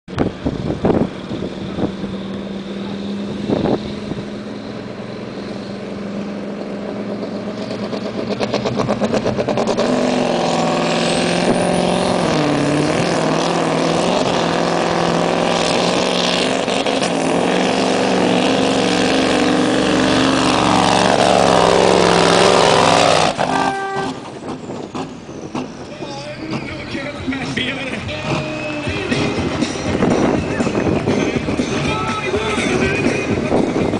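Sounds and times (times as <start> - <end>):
truck diesel engine: 0.1 - 33.9.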